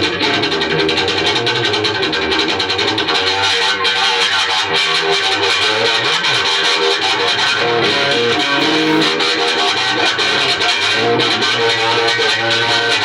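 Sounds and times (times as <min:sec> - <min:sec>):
electric guitar rock blues: 0:00.0 - 0:13.0.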